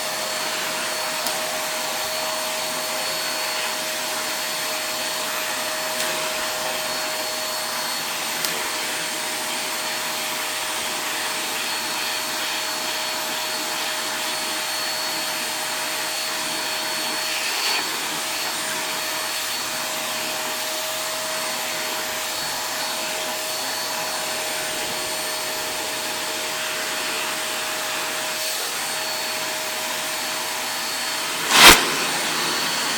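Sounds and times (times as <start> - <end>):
vacuum cleaner running: 0.0 - 32.9.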